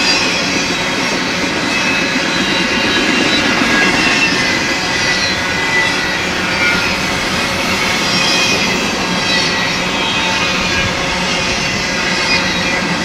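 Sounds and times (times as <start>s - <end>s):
train wheels rolling on rail: 0.0s - 13.0s.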